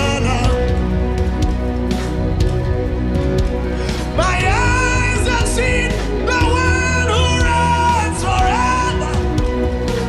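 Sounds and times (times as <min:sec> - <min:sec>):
held keyboard chords: 0:00.0 - 0:10.0
steady bass: 0:00.0 - 0:10.0.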